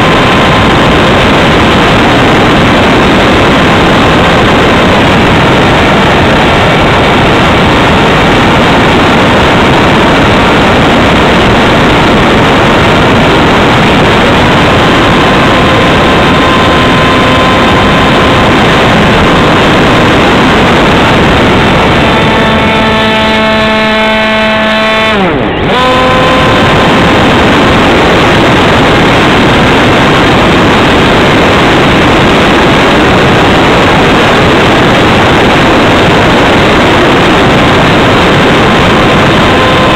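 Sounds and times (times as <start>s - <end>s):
electric motor whine: 0.0s - 39.9s
wind rush on microphone: 0.0s - 39.9s.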